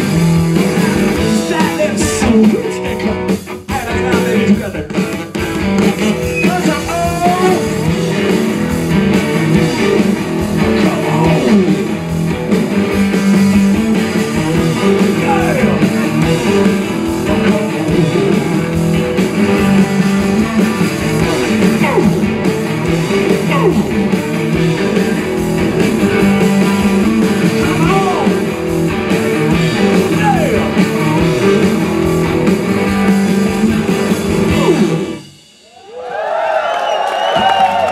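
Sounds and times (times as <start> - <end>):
live rock band playing: 0.0 - 37.9
electric guitar bending notes: 5.0 - 35.3.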